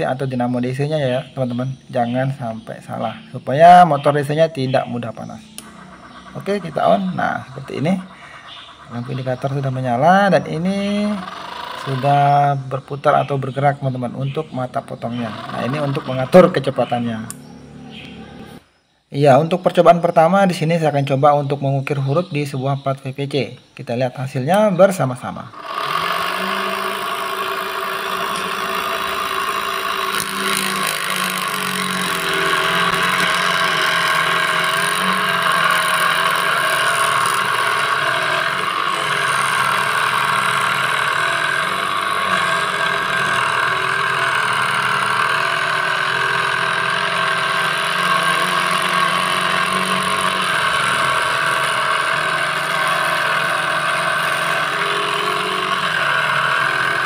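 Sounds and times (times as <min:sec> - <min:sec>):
small motor saw cutting plastic: 0:00.0 - 0:18.9, 0:24.3 - 0:57.0.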